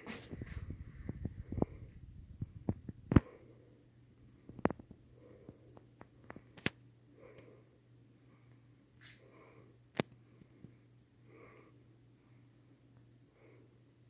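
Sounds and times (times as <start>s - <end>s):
ceiling fan motor humming: 0.0s - 14.0s.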